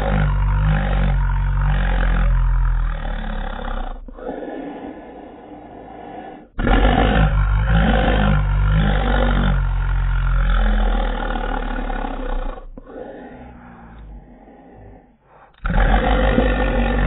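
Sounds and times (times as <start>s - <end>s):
slowed dog growl: 0.0s - 17.0s.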